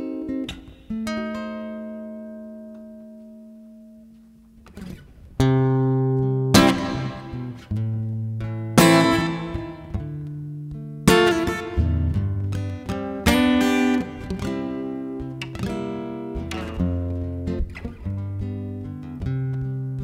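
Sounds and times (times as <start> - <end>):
guitar playing: 0.0 - 20.0.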